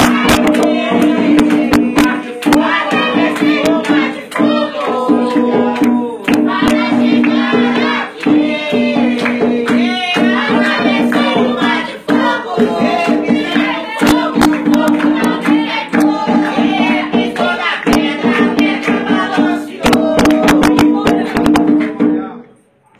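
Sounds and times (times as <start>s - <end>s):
group singing a chant: 0.0s - 21.8s
hand-clapping: 0.0s - 22.6s.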